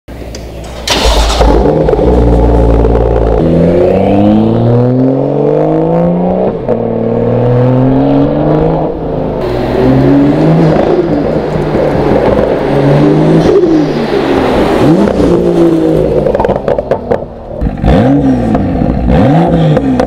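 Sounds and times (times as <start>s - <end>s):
car exhaust revving: 0.2s - 20.0s
car accelerating away: 0.8s - 20.0s.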